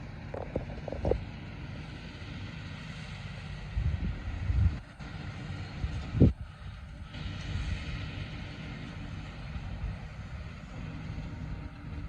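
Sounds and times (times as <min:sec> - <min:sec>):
tractor and baler rumbling: 0:00.0 - 0:12.0.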